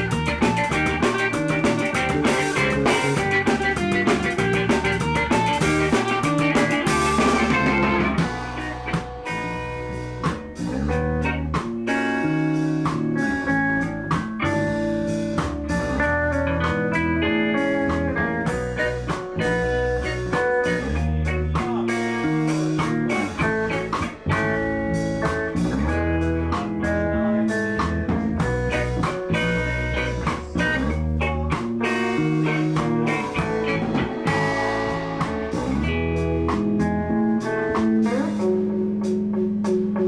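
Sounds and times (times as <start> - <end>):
drums: 0.0 - 40.0
electric bass: 0.0 - 40.0
electric guitar: 0.0 - 40.0.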